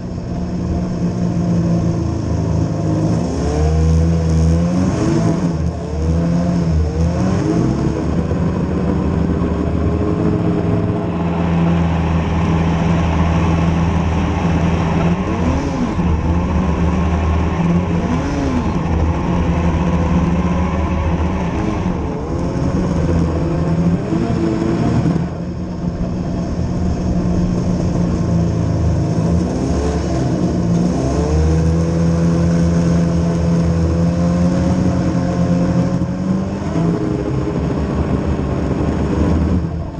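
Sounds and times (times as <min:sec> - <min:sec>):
steady low drone: 0:00.0 - 0:39.9
vehicle engine revving: 0:00.0 - 0:39.9.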